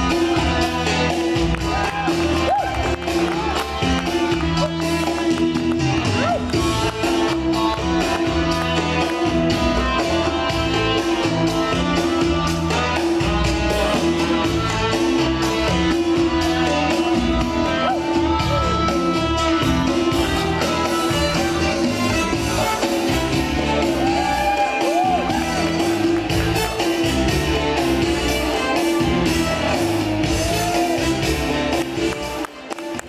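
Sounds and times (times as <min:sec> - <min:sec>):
cha-cha dance music: 0:00.0 - 0:33.0.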